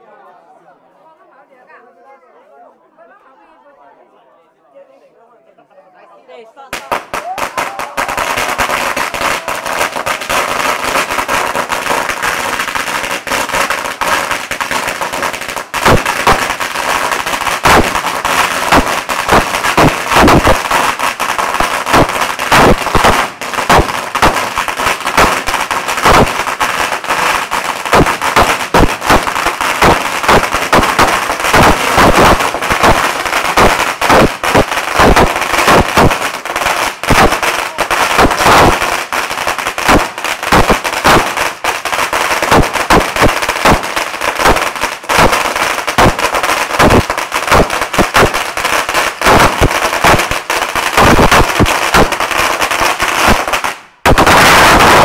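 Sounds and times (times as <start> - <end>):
firecrackers banging: 6.8 - 55.0.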